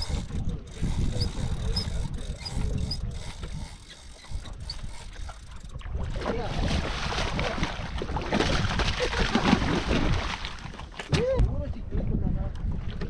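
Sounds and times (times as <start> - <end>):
water splashing against boat: 0.0 - 13.0
wind on microphone: 0.0 - 13.0.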